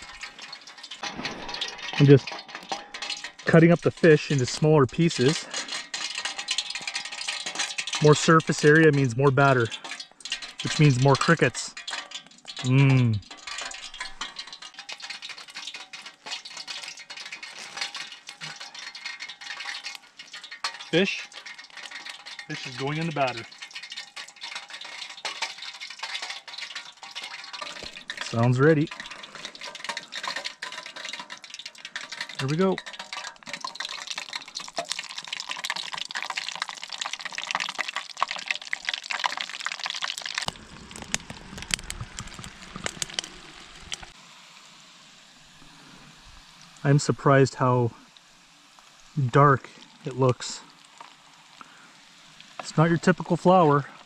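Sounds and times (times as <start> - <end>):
wood fire crackling and popping: 0.0 - 44.2, 45.2 - 54.0
food frying in hot oil: 0.0 - 54.0.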